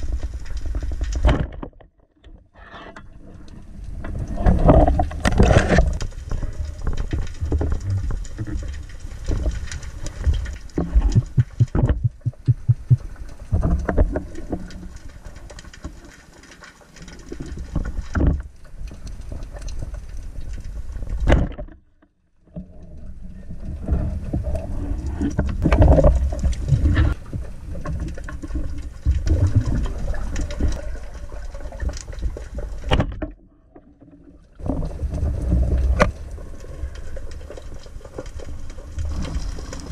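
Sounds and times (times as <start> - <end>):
underwater clicks and knocks: 0.1 - 2.5, 4.0 - 21.8, 23.8 - 36.3
underwater rushing water: 3.7 - 21.5, 22.5 - 39.9.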